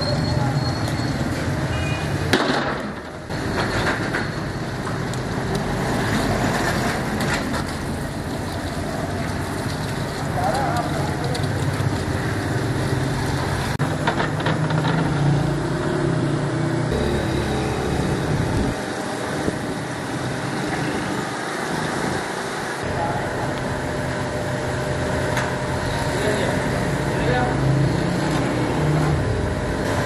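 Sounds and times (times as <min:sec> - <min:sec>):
low engine drone: 0:04.7 - 0:30.0.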